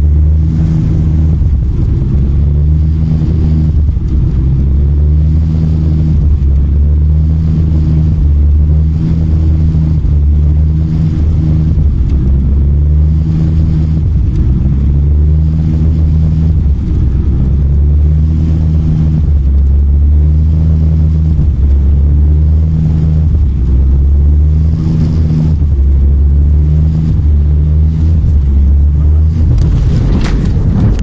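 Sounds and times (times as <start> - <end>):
low hum: 0.0 - 31.0
vehicle engine rumble: 0.0 - 31.0.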